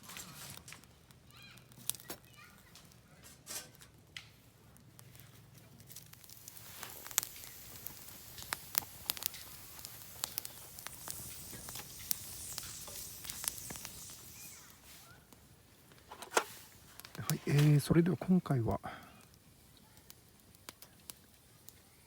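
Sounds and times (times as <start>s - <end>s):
campfire crackling: 0.0s - 22.0s
fire hissing: 0.0s - 22.0s
sharp pops of burning wood: 0.0s - 22.0s.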